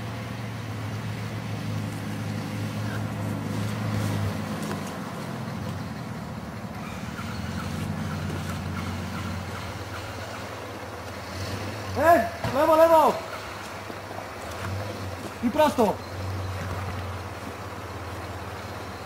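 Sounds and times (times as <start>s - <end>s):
suv engine at low revs: 0.0s - 19.0s.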